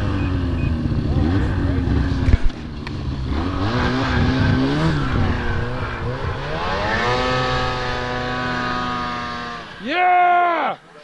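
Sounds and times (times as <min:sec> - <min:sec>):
snowmobile engine revving: 0:00.0 - 0:10.8.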